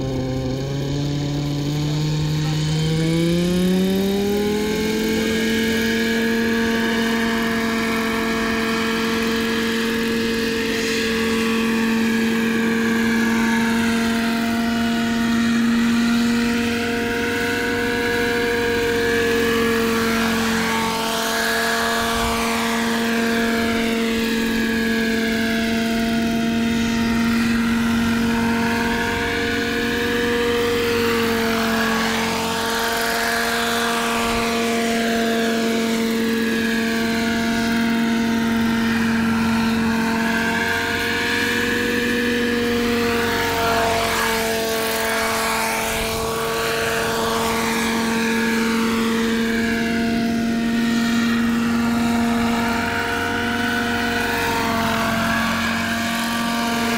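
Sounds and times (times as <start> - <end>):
model helicopter engine and rotors: 0.0 - 56.9.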